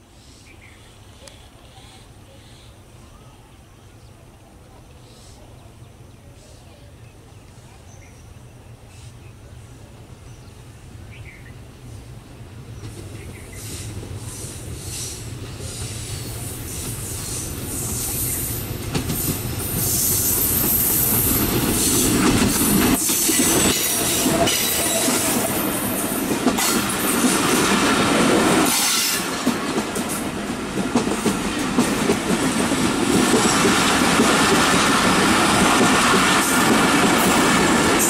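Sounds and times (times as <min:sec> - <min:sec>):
train rumbling past: 0:04.0 - 0:38.0.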